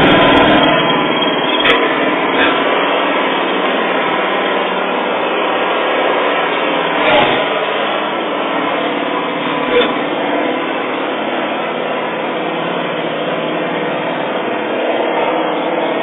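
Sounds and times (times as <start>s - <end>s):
engine running loudly: 0.0s - 16.0s.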